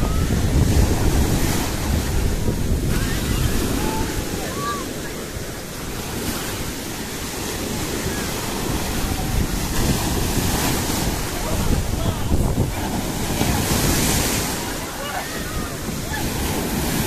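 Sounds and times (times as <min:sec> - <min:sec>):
waves crashing on shore: 0:00.0 - 0:17.0
wind buffeting microphone: 0:00.0 - 0:17.0.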